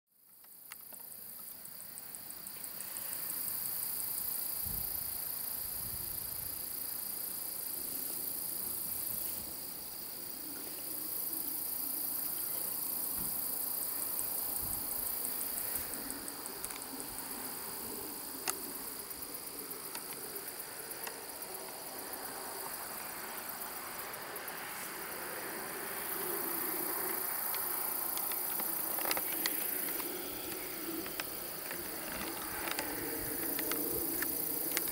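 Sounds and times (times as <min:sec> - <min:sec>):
insects trilling: 0:00.2 - 0:34.9.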